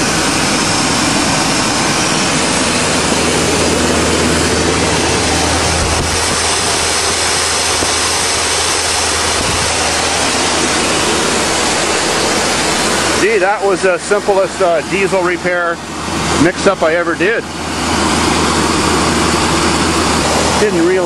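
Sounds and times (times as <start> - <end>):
car engine running at raised revs: 0.0 - 21.0.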